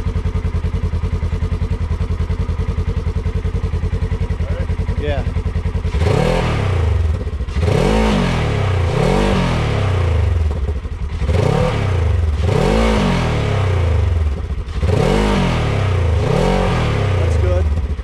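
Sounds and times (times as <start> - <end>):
engine revving from idle: 0.0 - 18.0.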